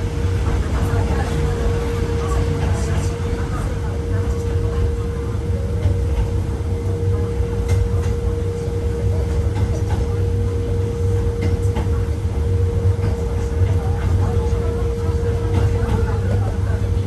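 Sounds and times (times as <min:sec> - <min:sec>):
constant hum: 0:00.0 - 0:17.0
train wheels rumbling: 0:00.0 - 0:17.0.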